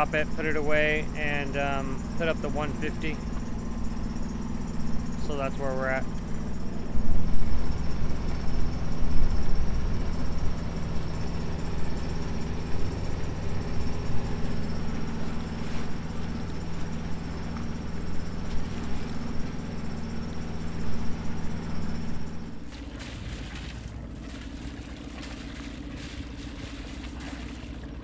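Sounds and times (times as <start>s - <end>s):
steady rushing noise: 0.0s - 22.8s
boat engine humming: 0.0s - 28.0s.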